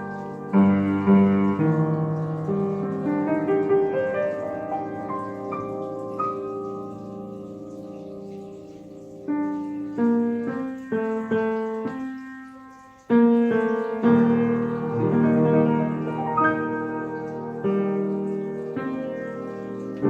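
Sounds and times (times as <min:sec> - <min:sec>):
upright piano playing: 0:00.0 - 0:20.0.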